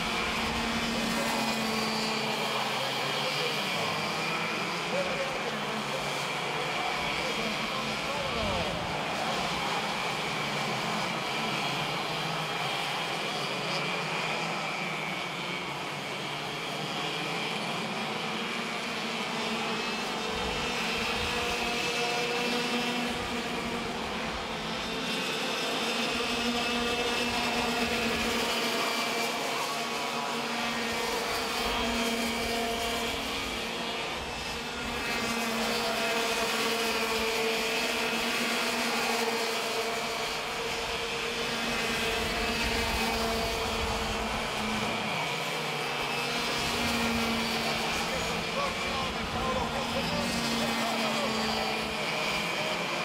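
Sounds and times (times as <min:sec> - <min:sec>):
go-kart engines revving: 0:00.0 - 0:53.0.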